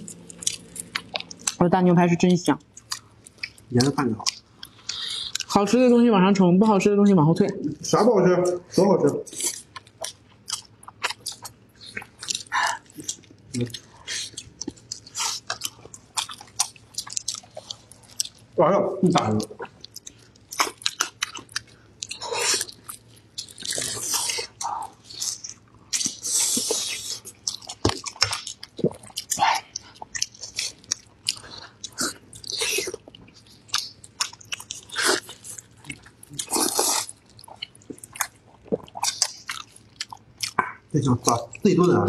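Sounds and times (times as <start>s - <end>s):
person chewing with mouth open: 0.0s - 1.7s, 2.6s - 5.8s, 7.4s - 42.0s.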